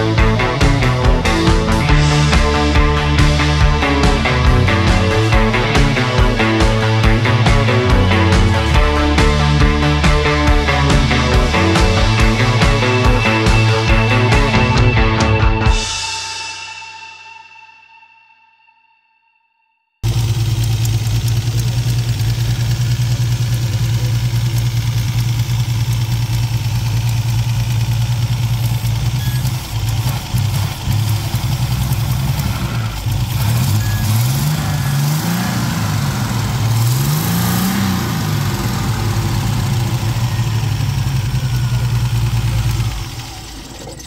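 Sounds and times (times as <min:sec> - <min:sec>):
car engine idling: 0:00.0 - 0:15.9, 0:20.0 - 0:44.0
engine revving: 0:00.0 - 0:16.0, 0:20.0 - 0:44.0.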